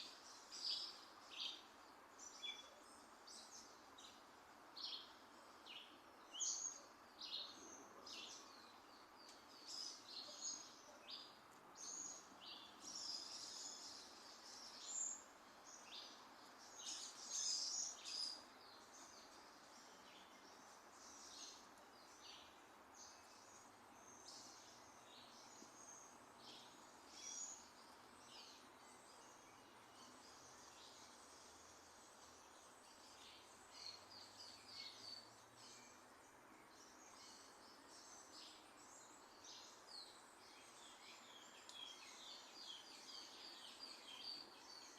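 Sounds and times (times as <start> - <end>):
faint background hiss: 0.0 - 44.9
small birds chirping: 0.0 - 44.9.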